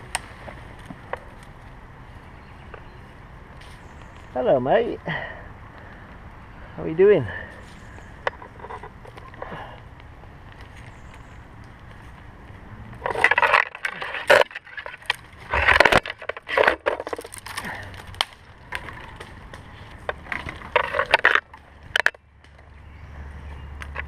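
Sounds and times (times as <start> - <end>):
branches rustling and cracking: 0.0 - 4.9, 5.6 - 24.0.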